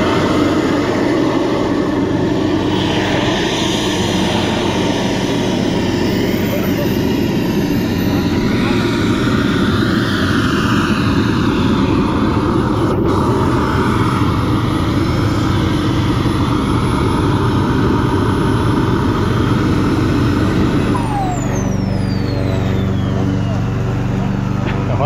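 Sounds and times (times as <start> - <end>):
high turbine whine: 0.0 - 25.0
jet turbine running: 0.0 - 25.0.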